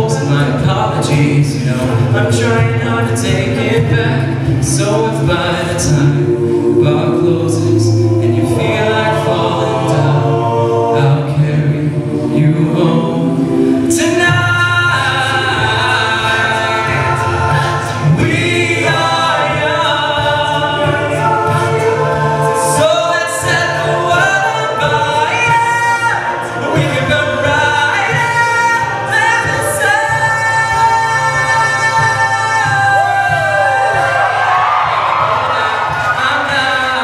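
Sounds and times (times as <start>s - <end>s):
men's a cappella singing: 0.0s - 37.0s.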